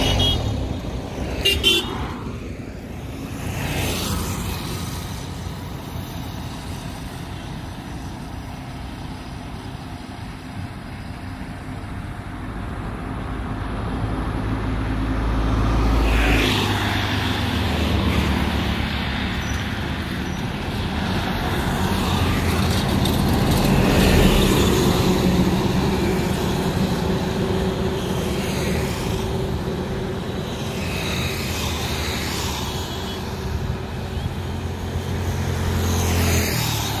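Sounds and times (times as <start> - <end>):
road traffic passing: 0.0 - 37.0.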